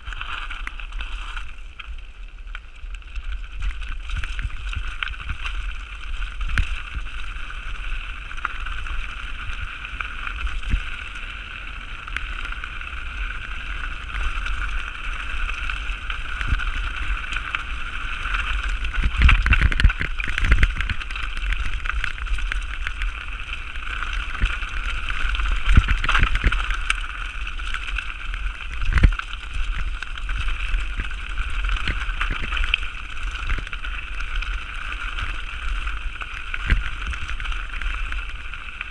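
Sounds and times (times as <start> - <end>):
bike rattling: 0.0 - 38.9
tyres on rough ground: 0.0 - 38.9
wind rumble on microphone: 0.0 - 38.9.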